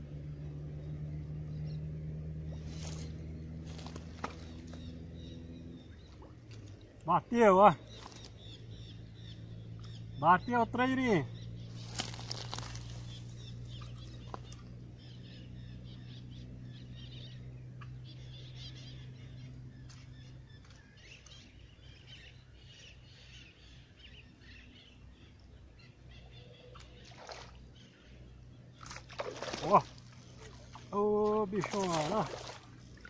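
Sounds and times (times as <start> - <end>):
birds chirping: 0.0 - 33.0
low steady hum: 0.0 - 33.0.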